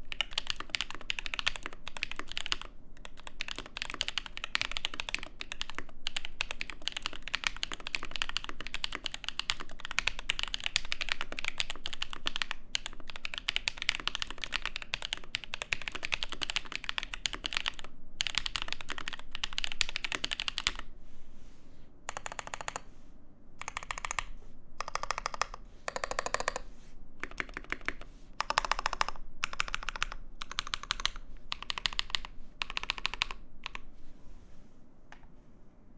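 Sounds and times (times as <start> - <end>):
mechanical keyboard typing: 0.0 - 20.8, 22.1 - 22.8, 23.6 - 26.6, 27.2 - 33.8.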